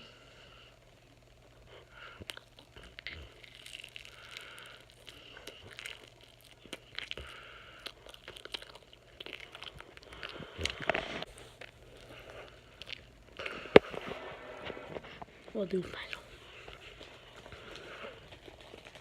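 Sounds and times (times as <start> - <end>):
person chewing marshmallows: 0.0 - 19.0.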